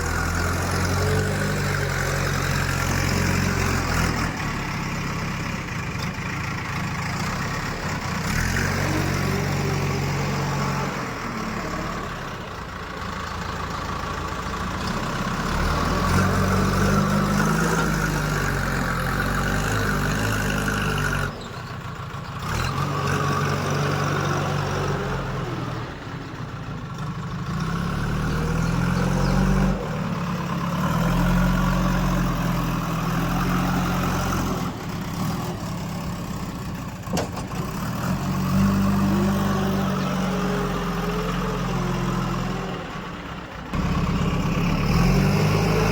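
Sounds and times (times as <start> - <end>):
diesel machinery engine running: 0.0 - 45.9.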